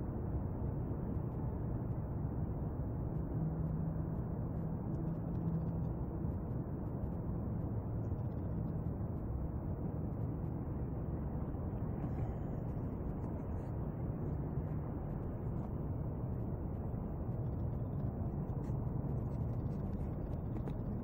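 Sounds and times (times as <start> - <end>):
faint low hum: 0.0 - 21.0
low rumbling background noise: 0.0 - 21.0.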